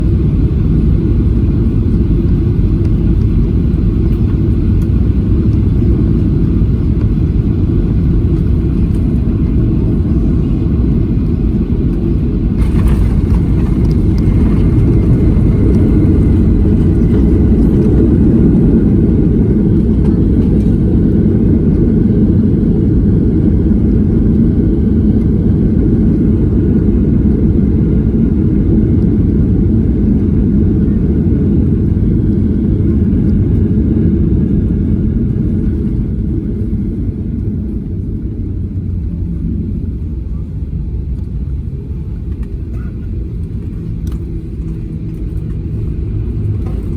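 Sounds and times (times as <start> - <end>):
faint high engine whine: 0.0 - 46.9
jet engines: 0.0 - 46.9
wind rumbling on microphone: 0.0 - 46.9.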